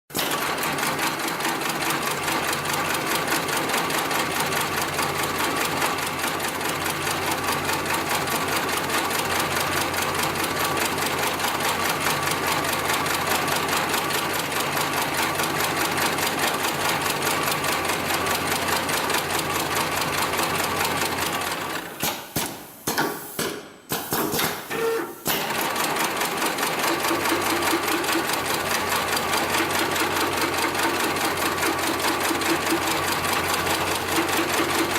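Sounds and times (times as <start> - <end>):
sewing machine stitching: 0.1 - 22.2, 24.3 - 34.9.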